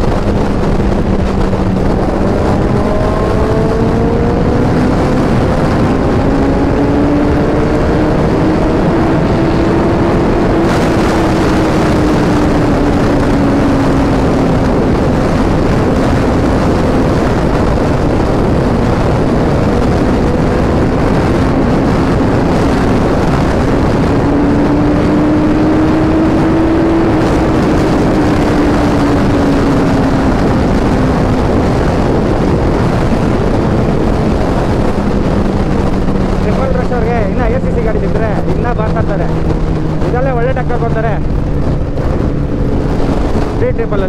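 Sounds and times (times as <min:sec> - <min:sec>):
motorcycle engine cruising: 0:00.0 - 0:44.0
wind and road noise: 0:00.0 - 0:44.0.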